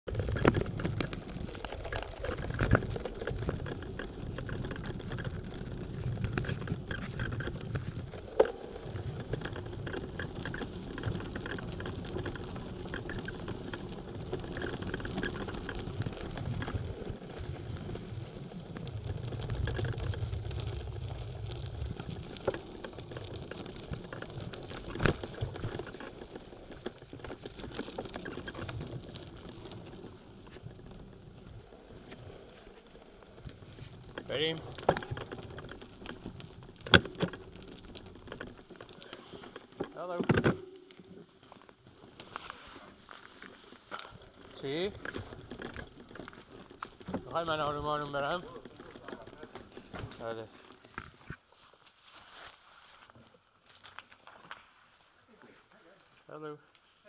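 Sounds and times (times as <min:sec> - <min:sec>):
bike rattling: 0:00.1 - 0:51.3
bicycle tyres crunching on gravel: 0:00.1 - 0:57.0.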